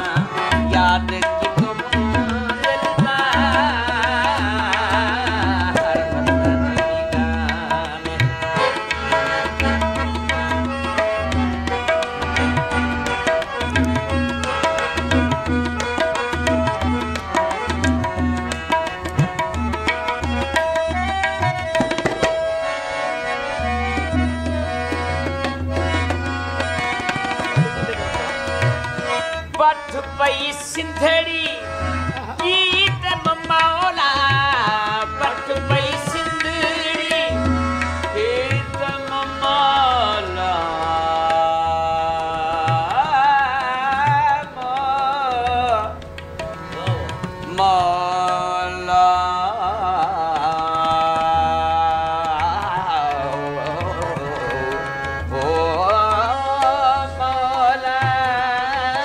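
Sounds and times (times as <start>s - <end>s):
harmonium chords: 0.0s - 59.0s
tabla strokes: 0.0s - 59.0s.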